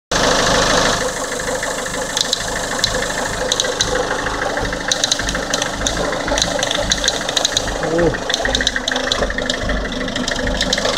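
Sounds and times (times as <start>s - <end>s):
diesel engine idling: 0.1s - 10.9s
sharp ticking clicks: 1.6s - 10.9s.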